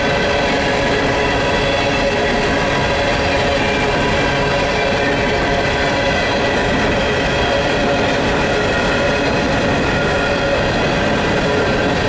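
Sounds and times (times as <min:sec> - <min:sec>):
steel wheels rumbling on rails: 0:00.0 - 0:12.0.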